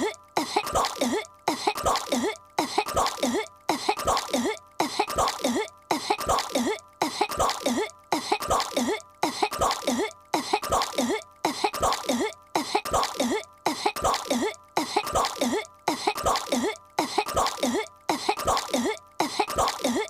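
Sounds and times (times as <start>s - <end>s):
cartoon girl coughing: 0.0s - 20.0s.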